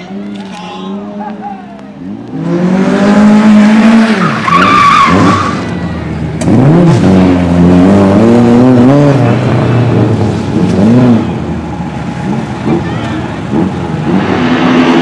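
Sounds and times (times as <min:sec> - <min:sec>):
racing car engine revving: 0:02.0 - 0:15.0.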